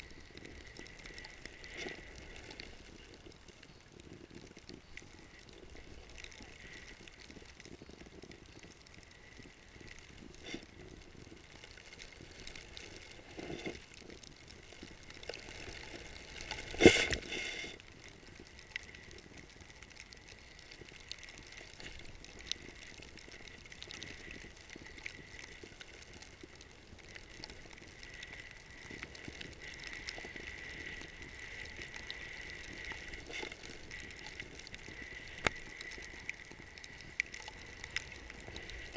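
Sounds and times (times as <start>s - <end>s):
small clicks and rattles: 0.0s - 38.9s.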